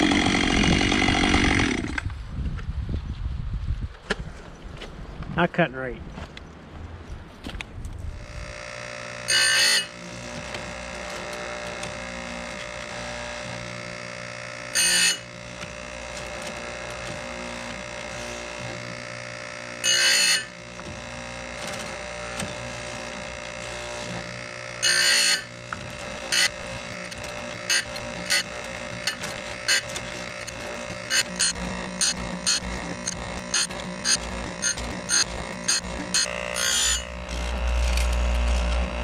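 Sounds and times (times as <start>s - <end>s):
chain grinder humming: 0.0s - 2.0s, 8.2s - 39.0s
grinding wheel rasping: 0.0s - 2.0s, 8.2s - 39.0s.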